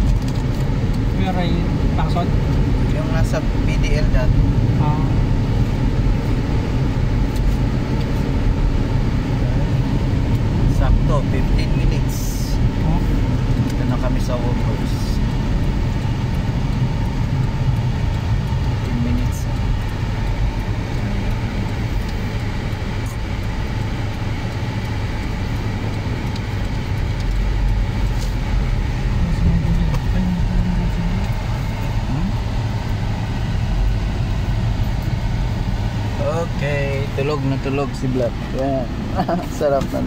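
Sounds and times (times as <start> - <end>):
car engine and road rumble: 0.0 - 40.0.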